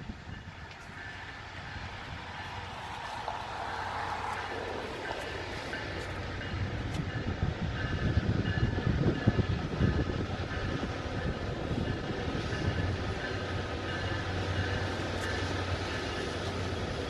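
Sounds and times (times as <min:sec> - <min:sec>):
locomotive engine drone: 0:00.0 - 0:17.0.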